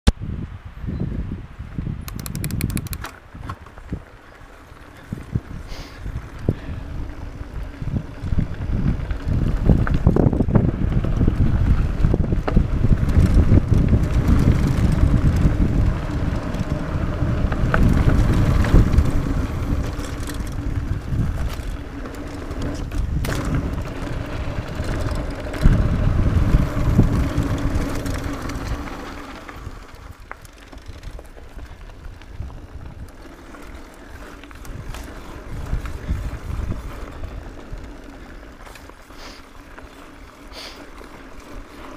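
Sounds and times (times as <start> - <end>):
wind buffeting microphone: 0.1 - 38.9
bike rattling over bumps: 2.1 - 41.9
tyres rumbling on dirt: 2.8 - 41.9.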